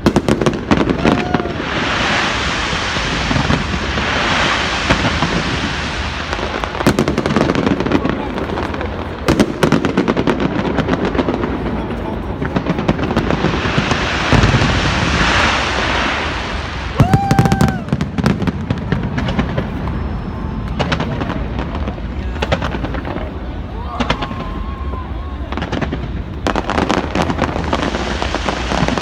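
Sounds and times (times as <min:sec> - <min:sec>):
firework whistle: 0:00.0 - 0:11.0, 0:12.5 - 0:29.0
crackling hiss: 0:00.0 - 0:29.0
fireworks bangs and crackles: 0:00.0 - 0:29.0.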